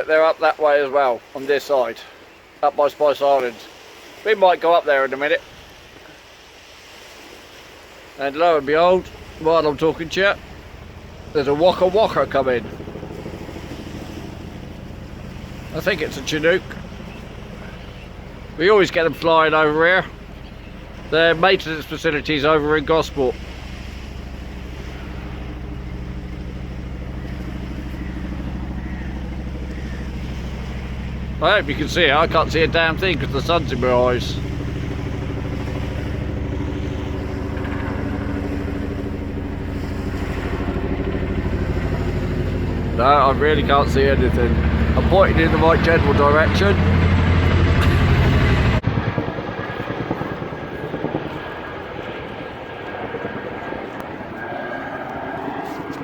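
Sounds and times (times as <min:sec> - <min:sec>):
helicopter rotor blades beating: 0:00.0 - 0:56.0.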